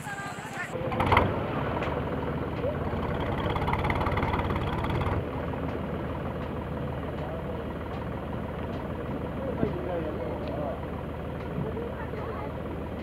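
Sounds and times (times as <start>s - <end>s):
engine running with low pulsing: 0.1s - 13.0s.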